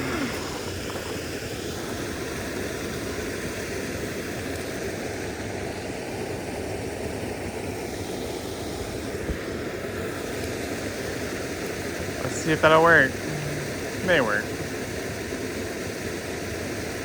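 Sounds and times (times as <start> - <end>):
creek water rushing over rapids: 0.0 - 17.0.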